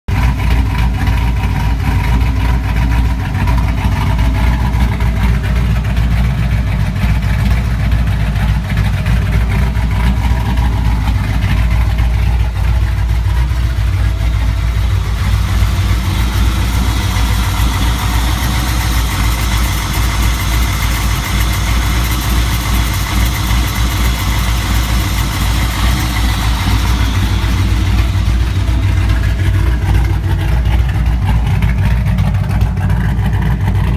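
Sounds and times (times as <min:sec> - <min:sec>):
engine idling loudly: 0:00.0 - 0:33.9.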